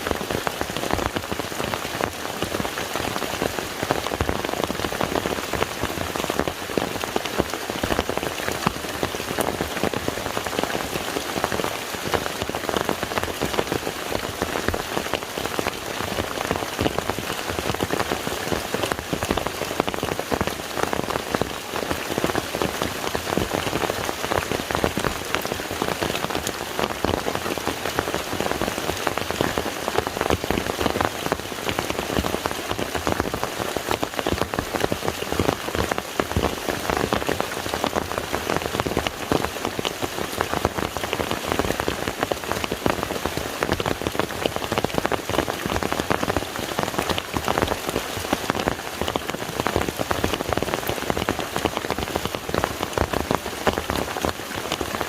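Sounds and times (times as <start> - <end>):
rain on water: 0.0 - 55.0.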